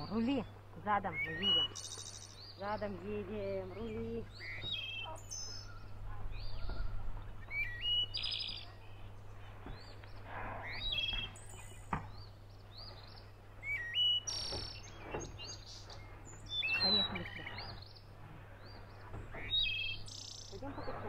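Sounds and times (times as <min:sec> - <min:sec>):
songbirds singing and chirping: 0:00.0 - 0:21.0.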